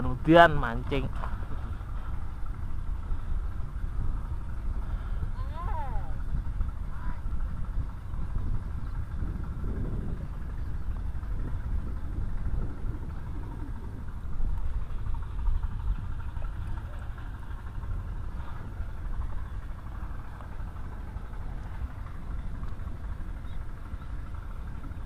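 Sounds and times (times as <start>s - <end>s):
steady outdoor hiss: 0.0s - 25.0s
wind buffeting microphone: 0.0s - 25.0s.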